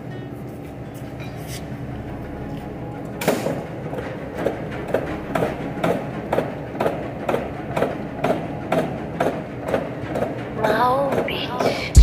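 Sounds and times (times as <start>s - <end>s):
gas forge burner rushing: 0.7s - 12.0s
mechanical press clanking: 1.2s - 12.0s.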